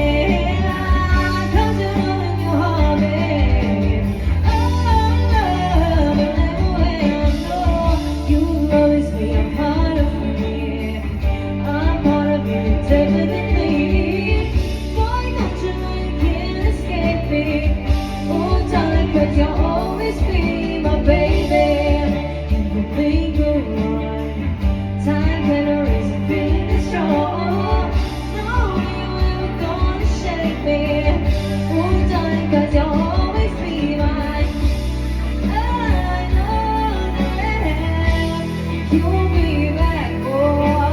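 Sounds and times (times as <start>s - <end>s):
live band playing pop song: 0.0s - 40.9s
woman singing: 0.0s - 40.9s.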